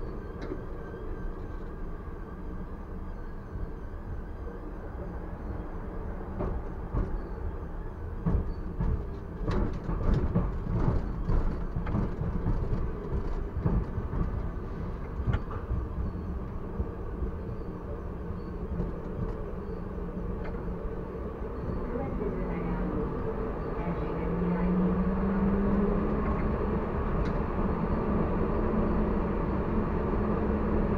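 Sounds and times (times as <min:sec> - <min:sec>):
tram rumbling on track: 0:00.0 - 0:30.9.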